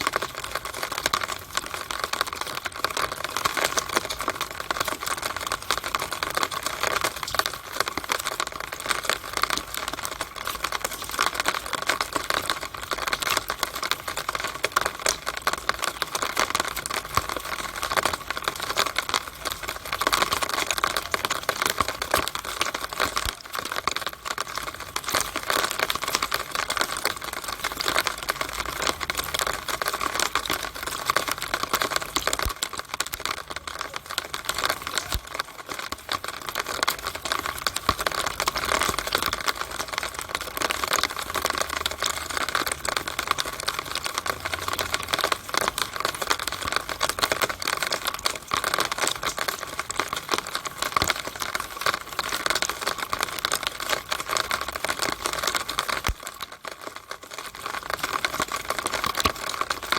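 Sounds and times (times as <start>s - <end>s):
rainwater running in downspout: 0.0s - 59.9s.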